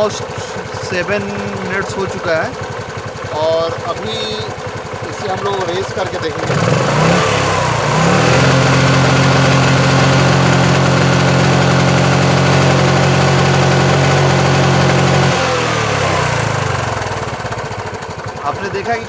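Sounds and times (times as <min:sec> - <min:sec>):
engine knocking and misfiring: 0:00.0 - 0:19.0
scooter engine revving: 0:00.0 - 0:19.0.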